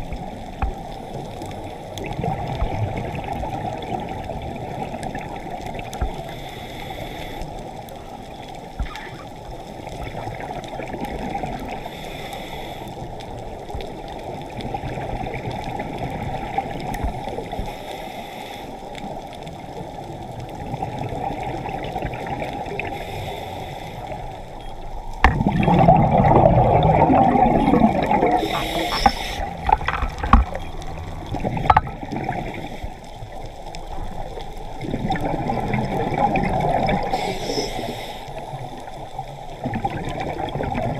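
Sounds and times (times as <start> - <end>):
gurgling bubbles: 0.0 - 6.4, 8.1 - 12.0, 13.8 - 17.6, 19.9 - 23.4, 24.0 - 40.9
muffled underwater noise: 0.0 - 40.9.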